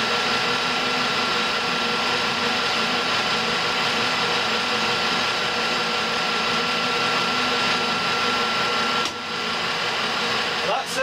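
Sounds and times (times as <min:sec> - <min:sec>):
lathe running with high tone: 0:00.0 - 0:11.0.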